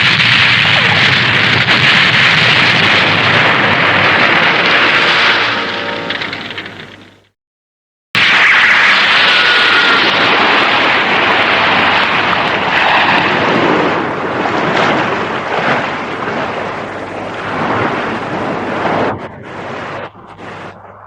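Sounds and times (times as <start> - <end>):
explosion: 0.0 - 7.3, 8.2 - 21.0.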